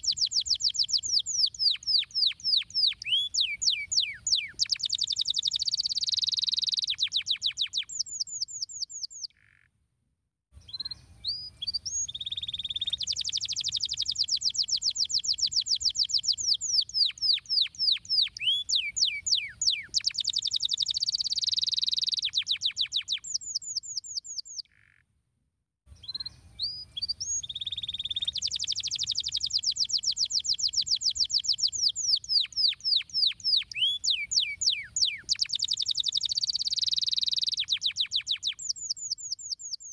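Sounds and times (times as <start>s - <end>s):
canary singing trills: 0.0s - 9.6s, 10.6s - 25.0s, 26.0s - 39.9s.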